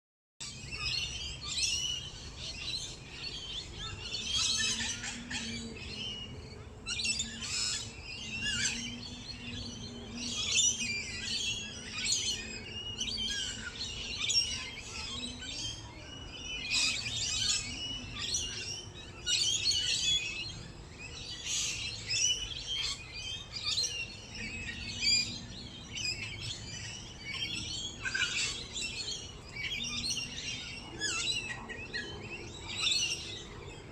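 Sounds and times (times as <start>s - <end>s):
songbirds chirping and singing: 0.4s - 33.9s.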